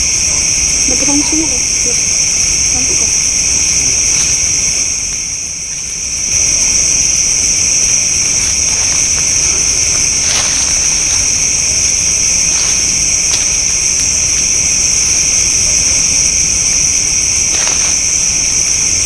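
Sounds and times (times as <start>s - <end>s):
crickets and insects trilling: 0.0s - 19.0s.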